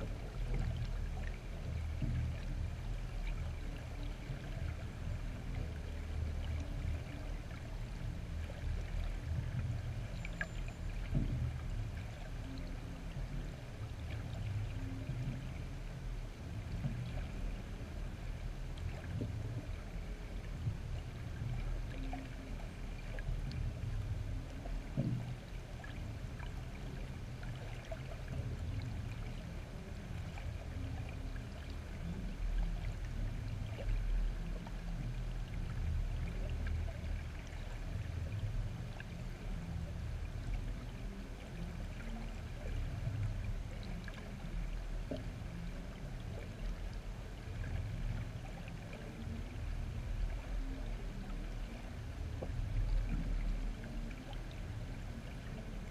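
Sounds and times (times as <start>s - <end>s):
muffled underwater rumble: 0.0s - 55.9s.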